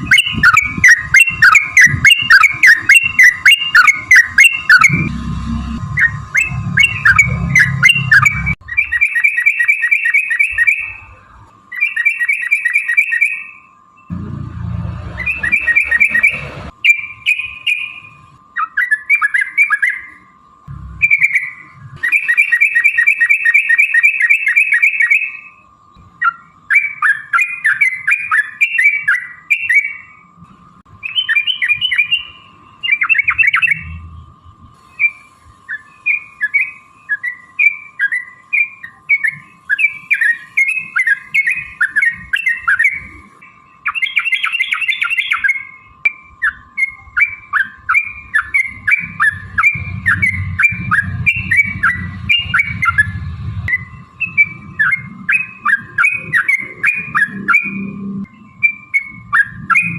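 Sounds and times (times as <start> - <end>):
bird chirping: 0.0 - 30.2, 31.0 - 59.9
faint steady hum: 0.0 - 59.9.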